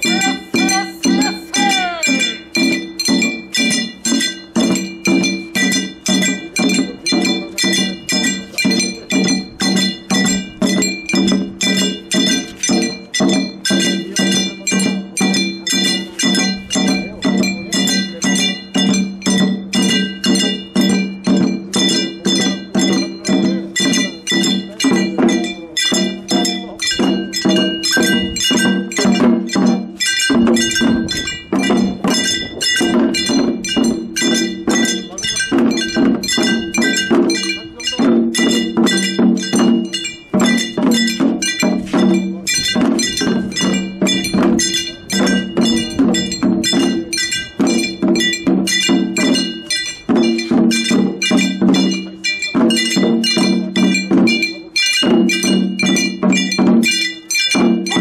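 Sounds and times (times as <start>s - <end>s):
drums: 0.0s - 58.0s.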